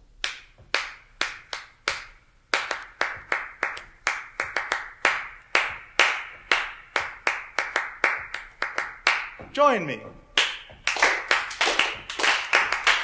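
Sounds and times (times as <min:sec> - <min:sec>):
hand clapping rhythm: 0:00.2 - 0:13.0.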